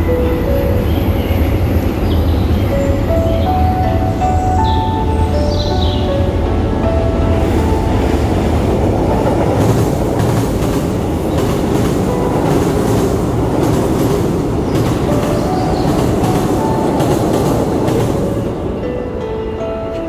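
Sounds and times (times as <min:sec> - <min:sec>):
train rumbling over bridge: 0:00.0 - 0:20.0.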